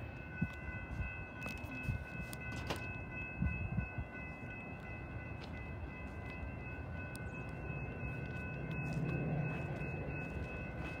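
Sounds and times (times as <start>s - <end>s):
distant train rumble: 0.0s - 11.0s
high ringing tones: 0.0s - 11.0s.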